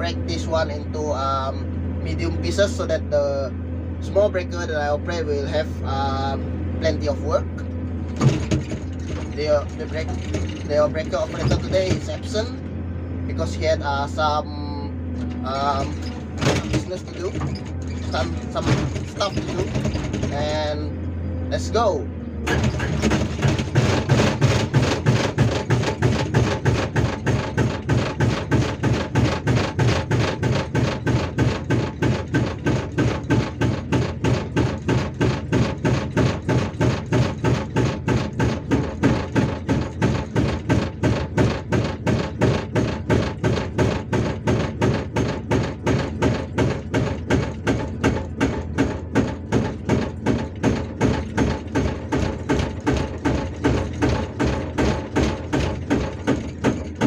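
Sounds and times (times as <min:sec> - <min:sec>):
hydraulic breaker pounding rock: 0:00.0 - 0:12.7, 0:13.3 - 0:57.0
excavator engine hum: 0:00.0 - 0:57.0.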